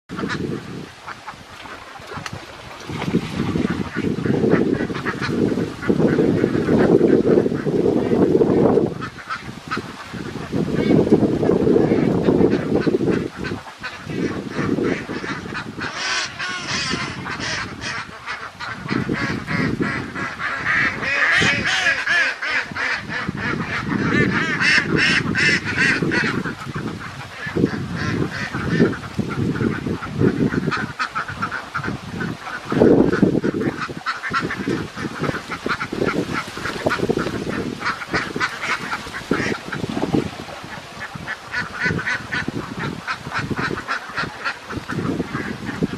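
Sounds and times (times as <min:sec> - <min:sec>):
ducks quacking: 0:00.1 - 0:45.9.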